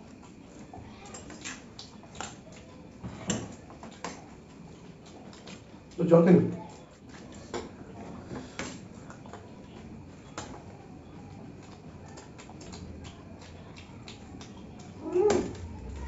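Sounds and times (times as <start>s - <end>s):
chewing puffed rice: 0.0s - 16.0s.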